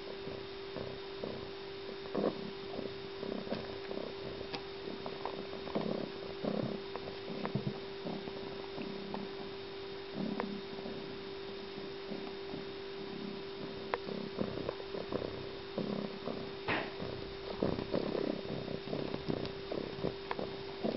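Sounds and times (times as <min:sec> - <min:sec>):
low hum: 0:00.0 - 0:20.9.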